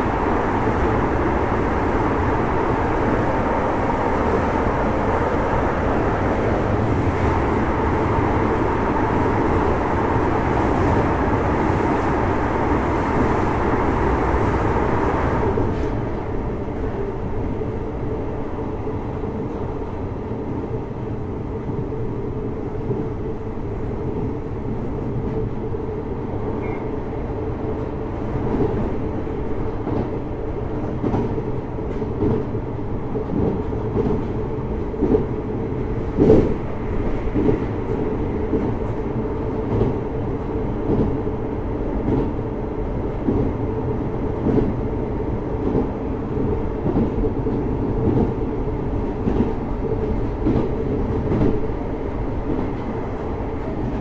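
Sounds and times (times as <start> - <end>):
train running noise from inside: 0.0 - 54.0.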